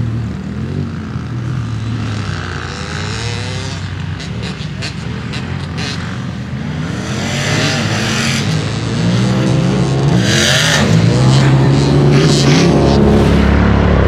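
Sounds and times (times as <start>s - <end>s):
utility vehicle engine revving: 0.6s - 14.0s.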